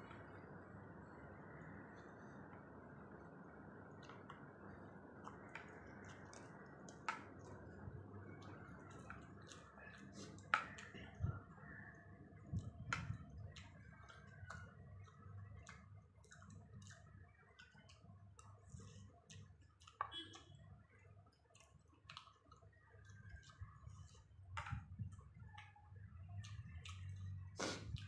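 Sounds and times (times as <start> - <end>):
chewing and lip smacks: 3.9 - 28.0.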